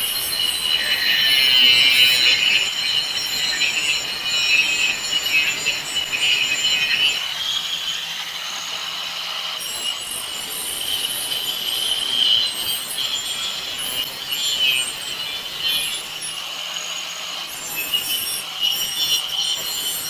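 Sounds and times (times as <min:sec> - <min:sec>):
angle grinder screeching: 0:00.0 - 0:20.0.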